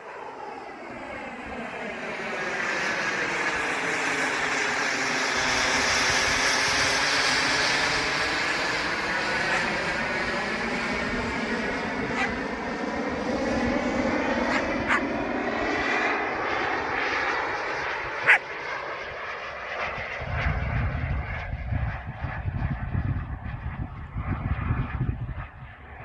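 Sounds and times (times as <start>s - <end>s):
model jet turbine whine: 0.0s - 26.0s.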